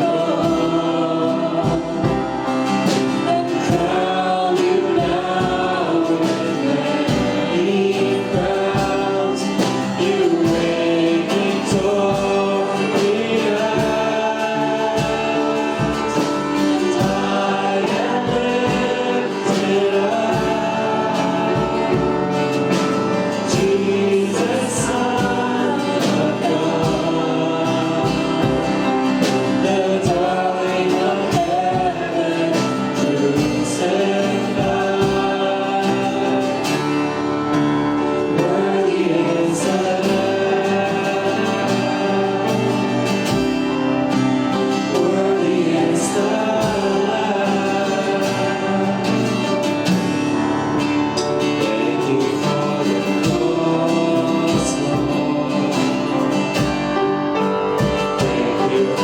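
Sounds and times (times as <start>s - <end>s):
gospel choir singing: 0.0s - 59.0s
instrumental accompaniment: 0.0s - 59.0s.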